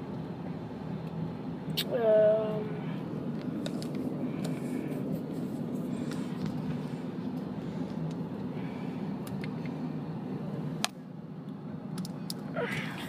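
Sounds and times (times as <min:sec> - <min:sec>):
low hum inside a car: 0:00.0 - 0:13.0.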